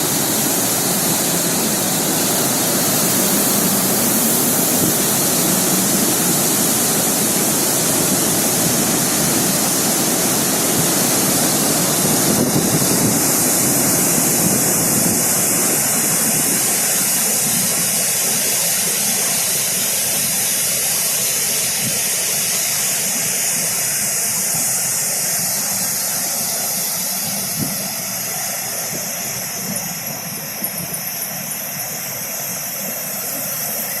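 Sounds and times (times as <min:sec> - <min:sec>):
dam water rushing: 0:00.0 - 0:34.0.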